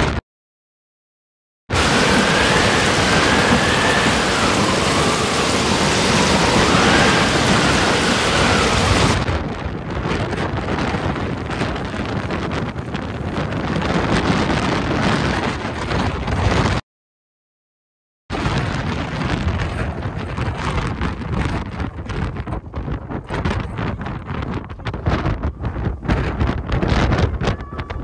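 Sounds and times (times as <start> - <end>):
gale buffeting microphone: 1.7 - 16.8, 18.3 - 28.0.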